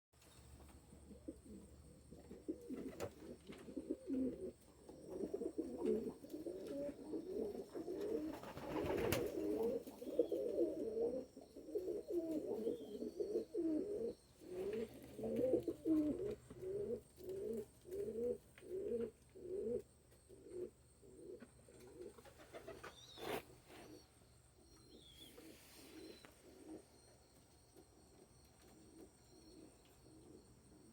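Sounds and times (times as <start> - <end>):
pigeons cooing: 0.9 - 24.1, 24.7 - 27.1.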